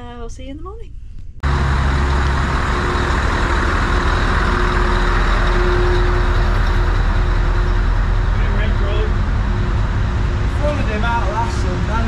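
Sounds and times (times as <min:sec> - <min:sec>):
steady hum: 0:00.0 - 0:12.0
lorry diesel engines rumbling: 0:01.4 - 0:12.0.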